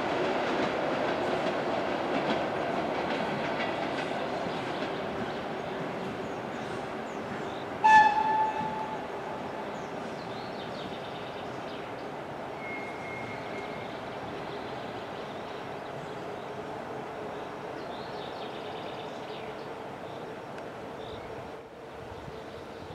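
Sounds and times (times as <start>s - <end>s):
faint locomotive hum: 0.0s - 22.9s
wheels rumbling on rail: 0.0s - 22.9s.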